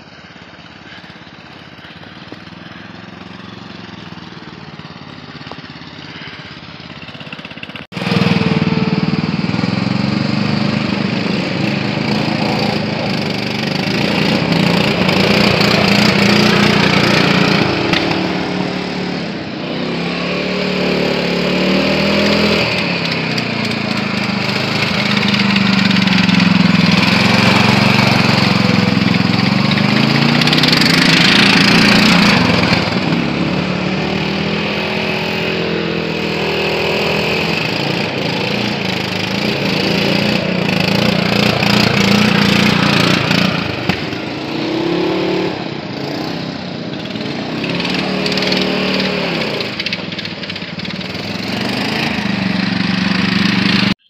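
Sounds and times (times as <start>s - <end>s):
lawn mower engines revving: 0.0s - 54.0s.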